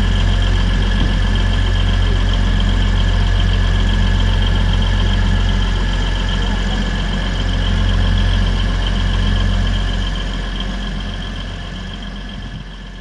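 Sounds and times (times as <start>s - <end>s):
train diesel engine drone: 0.0s - 13.0s.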